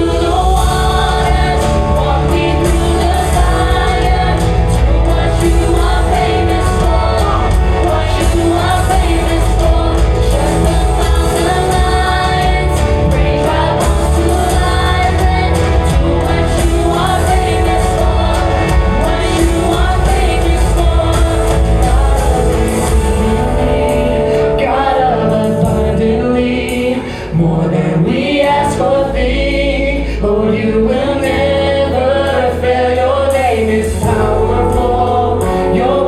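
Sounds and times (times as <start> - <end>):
singers singing: 0.0 - 36.0
worship band playing: 0.0 - 36.0.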